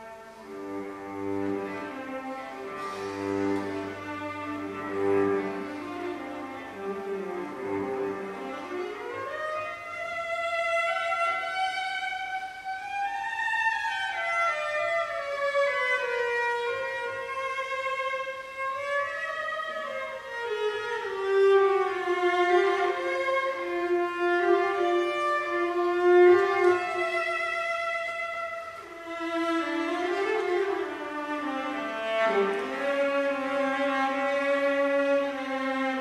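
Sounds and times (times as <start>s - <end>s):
bowed cello melody: 0.0s - 36.0s.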